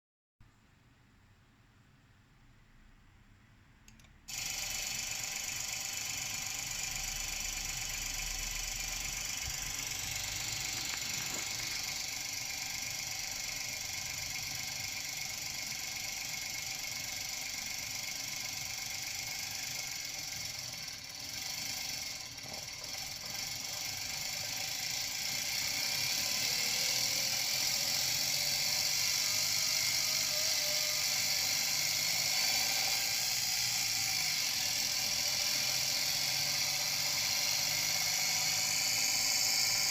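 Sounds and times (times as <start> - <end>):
engine running with spark knock: 4.3 - 39.9.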